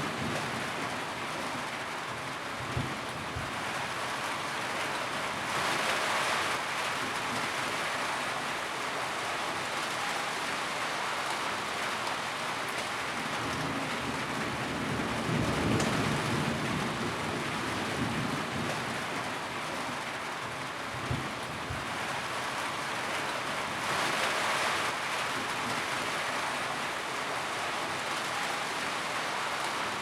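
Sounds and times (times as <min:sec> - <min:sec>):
rain on a tin roof: 0:00.0 - 0:30.0.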